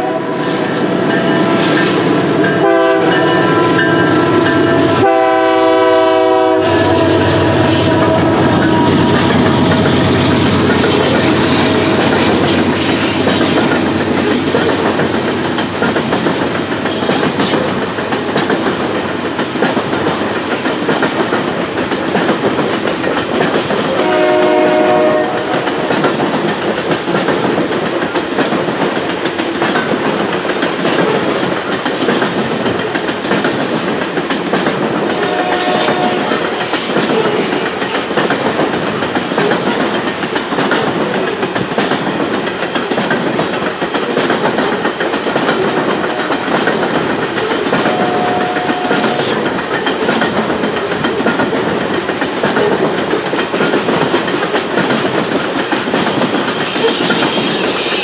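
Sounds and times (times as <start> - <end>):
freight train wheels clicking: 0.0 - 58.0.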